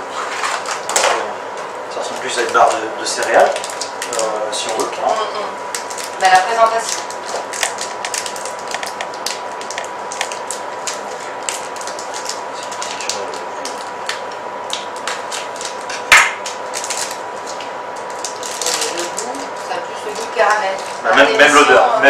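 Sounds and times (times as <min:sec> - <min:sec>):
wrapper crackling: 0:02.1 - 0:05.1, 0:05.7 - 0:21.0.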